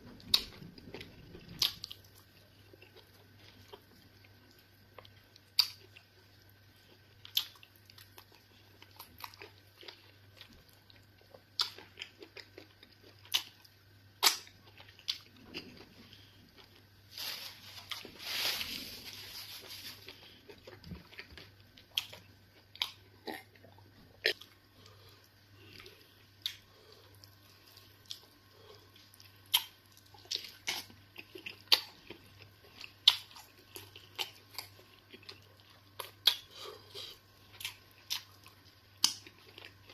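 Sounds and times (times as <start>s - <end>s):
faint steady hum: 0.0s - 39.9s
person chewing with wet smacks: 0.1s - 16.8s, 20.1s - 39.9s.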